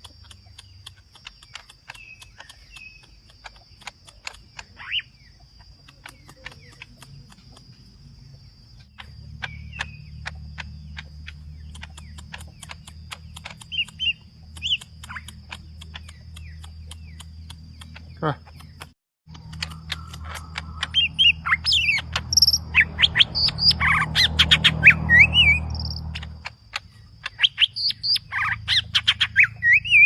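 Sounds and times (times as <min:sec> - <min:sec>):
bird calling with clicks and chirps: 0:00.0 - 0:30.0.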